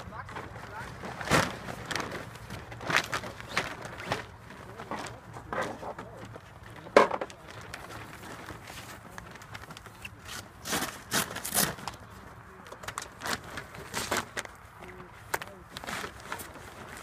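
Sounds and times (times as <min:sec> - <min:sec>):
sail cloth rustling and crinkling: 0:00.0 - 0:17.0.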